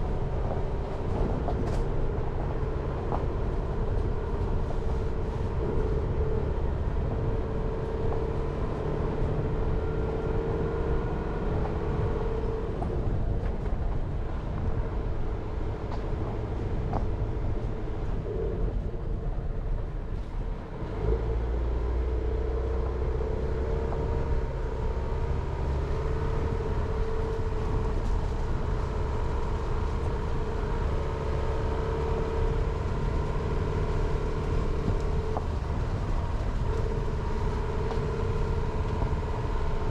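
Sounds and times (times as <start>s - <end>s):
car engine hum: 0.0s - 39.9s
tyre and road rumble: 0.0s - 39.9s.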